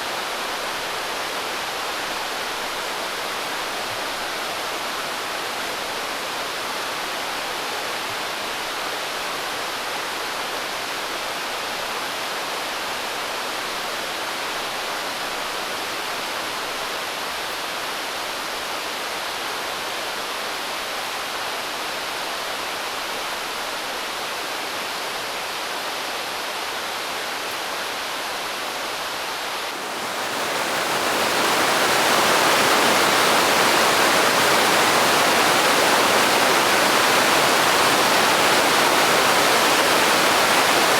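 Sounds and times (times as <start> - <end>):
large waterfall rushing: 0.0 - 40.9.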